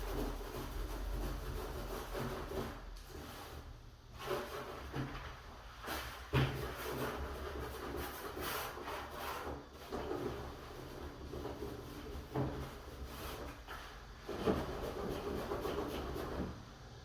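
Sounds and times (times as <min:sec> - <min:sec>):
rubbing against wooden door: 0:00.0 - 0:16.6.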